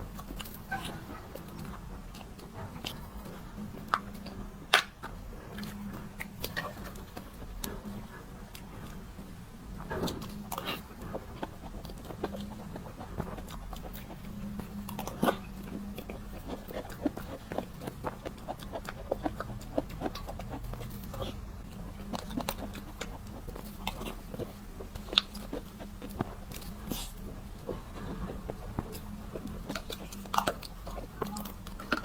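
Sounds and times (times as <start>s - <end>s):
mouth clicks and smacks: 0.0s - 32.0s
wet chewing: 0.0s - 32.0s.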